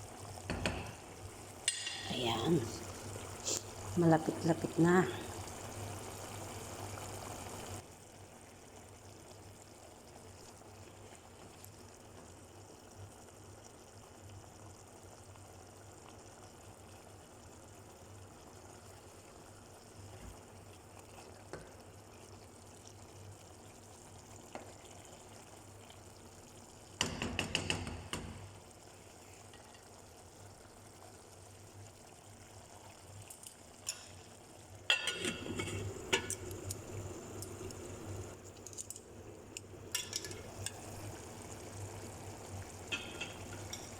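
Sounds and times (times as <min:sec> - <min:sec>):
pot simmering with low bubbling: 0:00.0 - 0:43.9.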